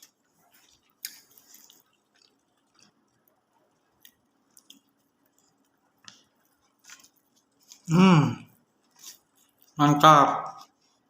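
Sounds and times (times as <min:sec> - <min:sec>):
faint chewing: 0:00.0 - 0:09.8, 0:10.4 - 0:11.0.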